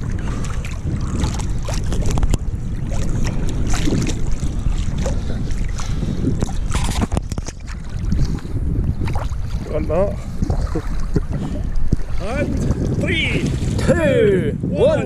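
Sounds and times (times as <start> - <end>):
sea water splashing: 0.0 - 14.0
wind buffeting microphone: 0.0 - 15.0.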